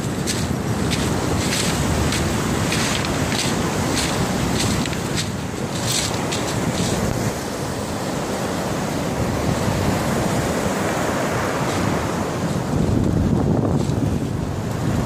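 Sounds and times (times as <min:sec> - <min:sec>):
surf washing up pebble beach: 0:00.0 - 0:15.0
wind buffeting microphone: 0:00.0 - 0:15.0.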